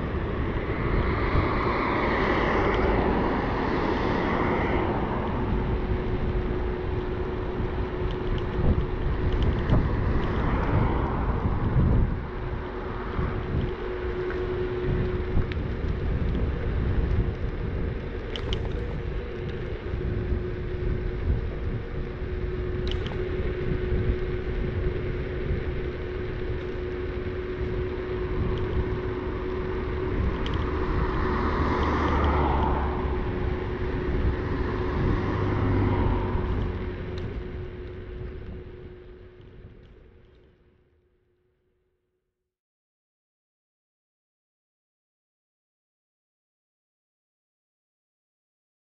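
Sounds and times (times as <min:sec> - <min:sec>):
tyres rumbling on pavement: 0:00.0 - 0:40.5
wind on microphone: 0:00.0 - 0:40.7
steady hum: 0:00.0 - 0:41.6.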